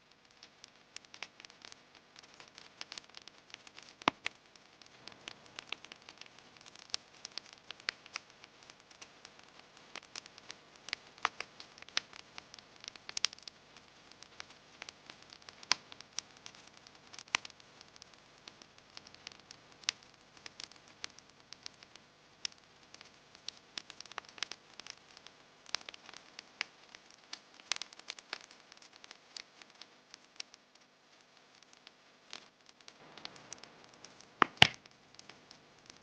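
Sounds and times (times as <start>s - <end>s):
campfire crackling and popping: 0.0s - 36.0s
faint steady hiss: 0.0s - 36.0s.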